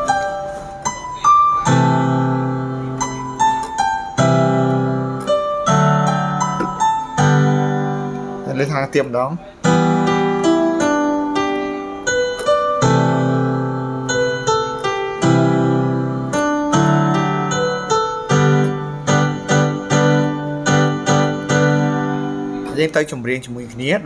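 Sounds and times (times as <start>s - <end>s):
keyboard piano melody and chords: 0.0s - 24.0s.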